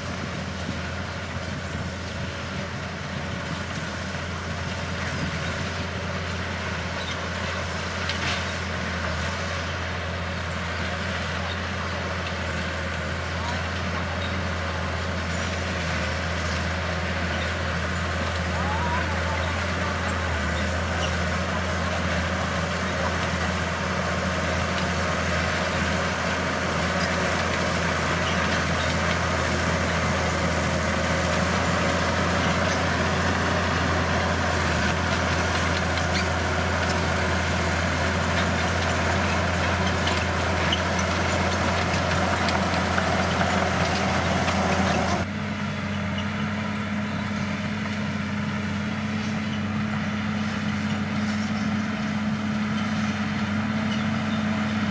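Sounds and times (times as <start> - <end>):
bulldozer diesel engine droning: 0.0 - 54.9.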